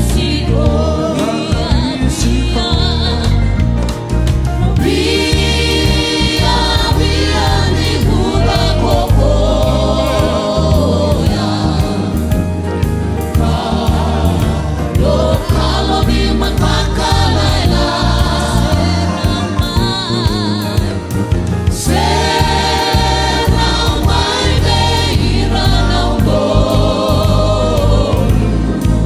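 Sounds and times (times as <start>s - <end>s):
women singing in harmony: 0.0s - 3.7s, 4.6s - 12.5s, 13.3s - 21.2s, 21.8s - 29.0s
bass line: 0.0s - 29.0s
drum kit with cymbals: 0.0s - 29.0s
keyboard: 0.0s - 29.0s.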